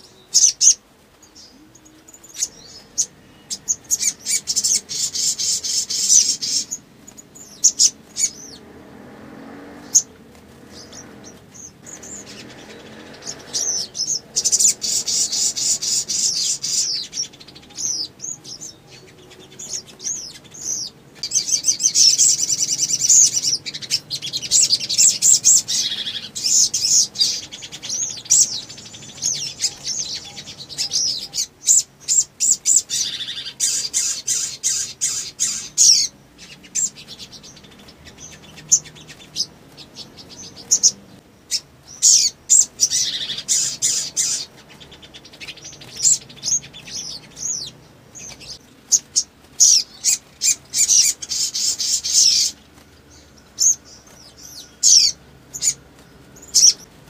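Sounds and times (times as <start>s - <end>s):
sunbird singing: 0.0s - 57.0s.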